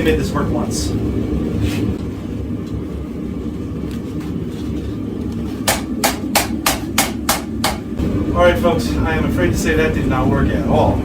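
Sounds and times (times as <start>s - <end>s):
propane forge burner roaring: 0.0s - 11.0s.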